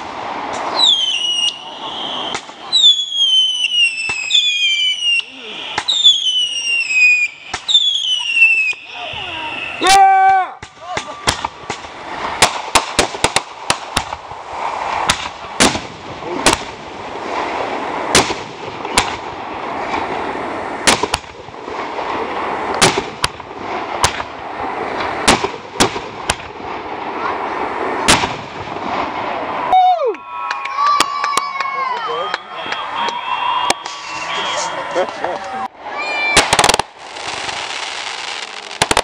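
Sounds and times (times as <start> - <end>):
fireworks bangs and pops: 0.0 - 9.3, 10.6 - 29.4, 32.6 - 35.5, 36.2 - 39.0
background noise: 0.0 - 39.0.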